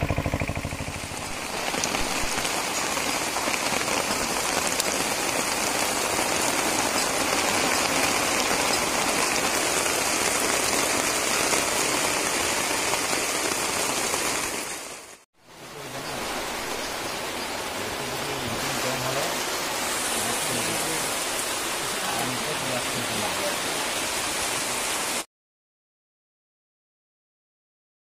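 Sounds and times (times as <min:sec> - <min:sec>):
steady rain falling: 0:00.0 - 0:25.3.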